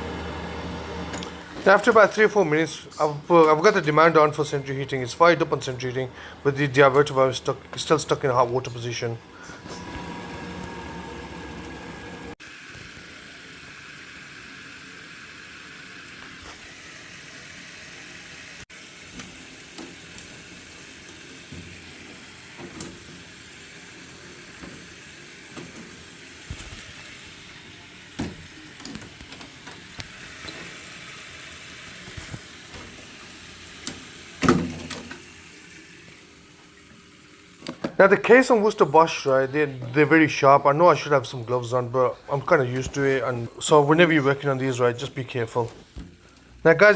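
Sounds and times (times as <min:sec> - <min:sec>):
gas boiler running: 0:00.0 - 0:46.9.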